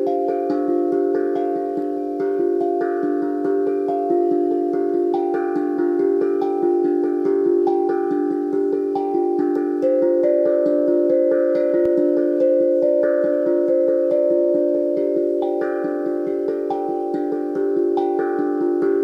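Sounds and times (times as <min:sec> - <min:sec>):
steel tongue drum melody: 0:00.0 - 0:19.0.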